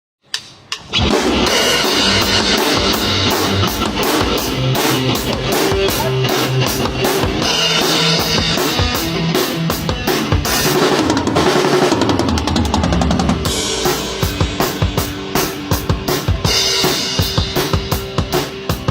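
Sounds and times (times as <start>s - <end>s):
drum kit beat: 0.4s - 18.9s
bass line: 1.0s - 17.8s.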